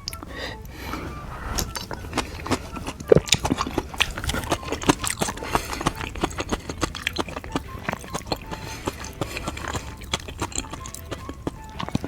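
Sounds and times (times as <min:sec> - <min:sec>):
person chewing with wet smacking: 0:00.0 - 0:12.0.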